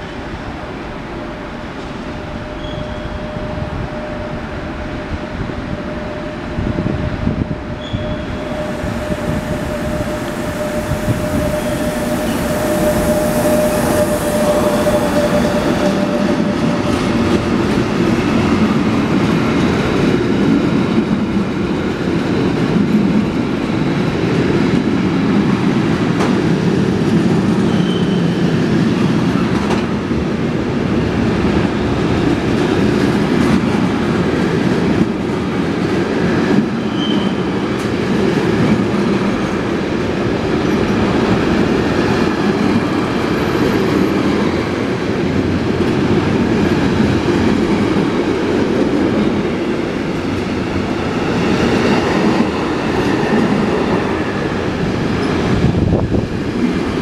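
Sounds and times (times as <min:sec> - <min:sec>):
electric locomotive whine: 0:00.0 - 0:57.0.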